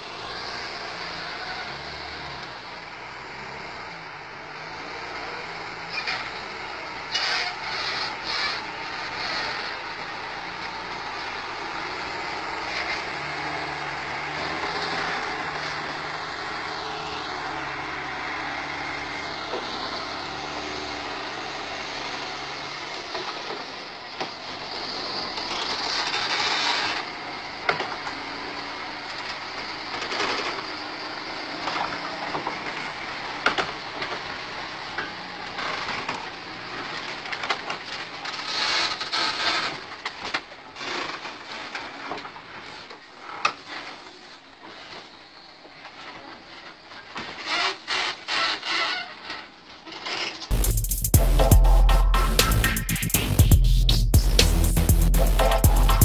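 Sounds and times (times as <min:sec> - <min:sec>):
heavy truck diesel engine: 0:00.0 - 0:56.0.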